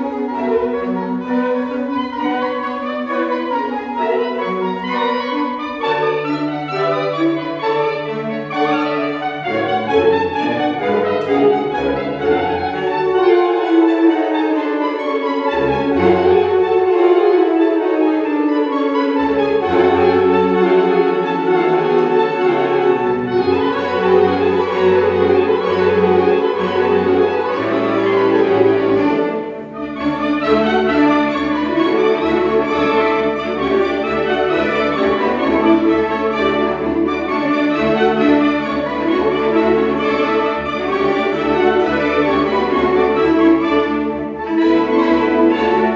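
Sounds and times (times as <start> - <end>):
saxophone ensemble playing chords: 0.0 - 45.9.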